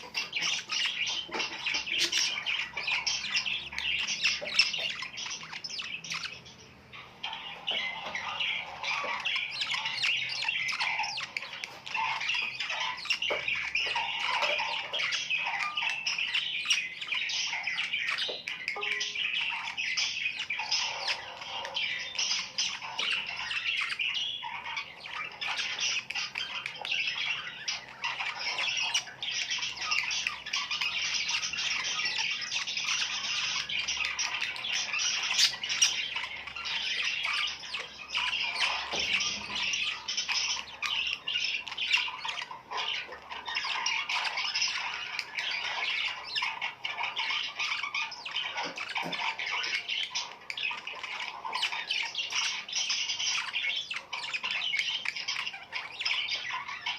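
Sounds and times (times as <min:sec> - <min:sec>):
many birds calling: 0:00.0 - 0:56.9.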